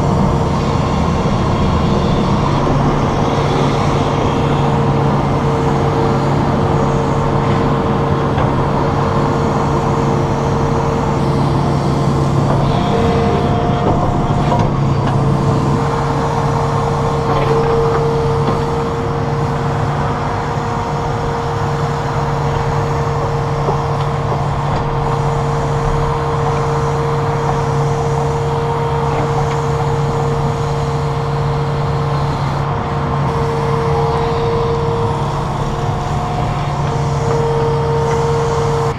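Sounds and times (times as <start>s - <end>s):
diesel engine drone: 0.0s - 38.9s
steady whine: 0.0s - 38.9s.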